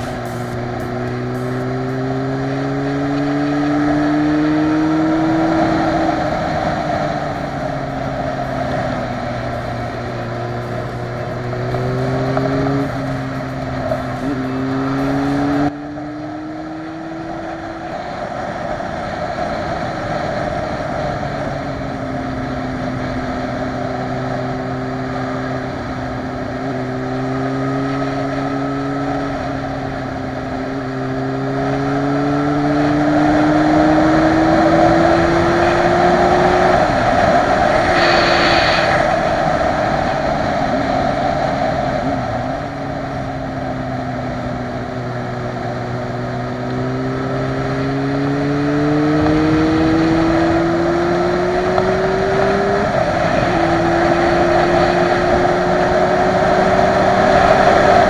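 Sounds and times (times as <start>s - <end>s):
motorcycle engine accelerating: 0.0s - 58.0s
rushing wind: 0.0s - 58.0s.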